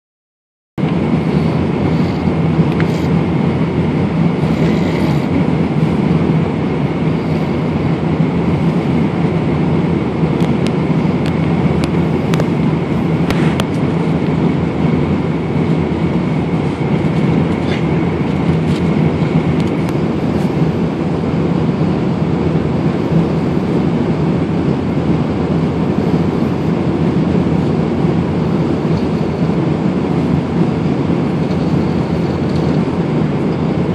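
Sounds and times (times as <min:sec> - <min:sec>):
airliner cabin drone: 0:00.8 - 0:33.9.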